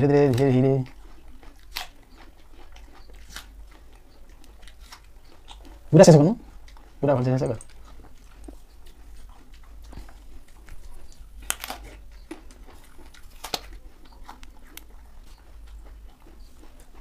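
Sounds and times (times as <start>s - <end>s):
person crunching an apple: 0.0s - 17.0s
steady low hum: 0.0s - 17.0s.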